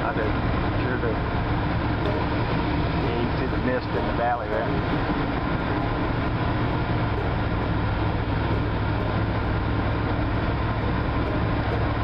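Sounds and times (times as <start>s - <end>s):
truck engine and tyre noise: 0.0s - 12.0s.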